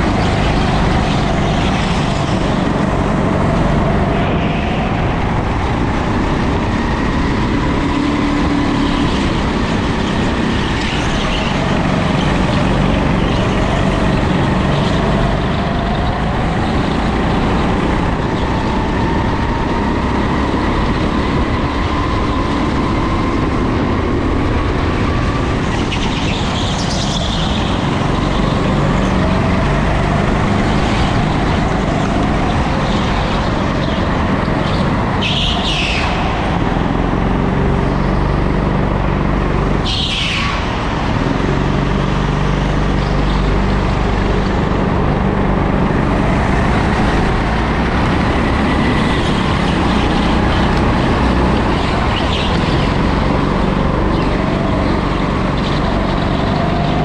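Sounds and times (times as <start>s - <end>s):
go-kart motor racing: 0.0s - 57.0s.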